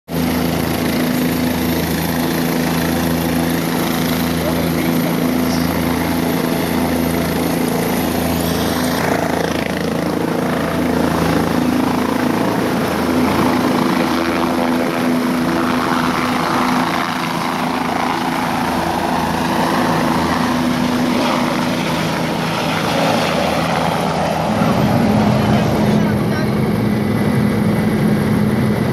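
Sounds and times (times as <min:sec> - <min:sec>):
helicopter rotor and engine: 0:00.1 - 0:28.9.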